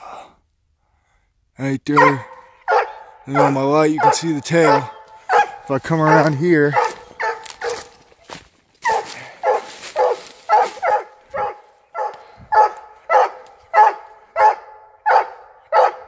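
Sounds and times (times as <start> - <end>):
hound barking: 1.9 - 8.0, 8.8 - 16.0.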